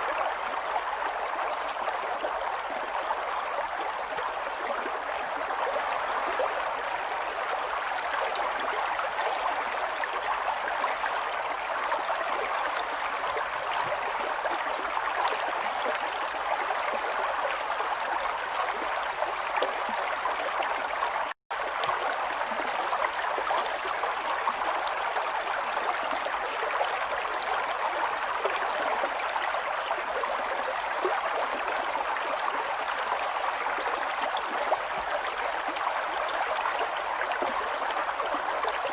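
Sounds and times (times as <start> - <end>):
stream flowing and trickling: 0.0 - 38.9.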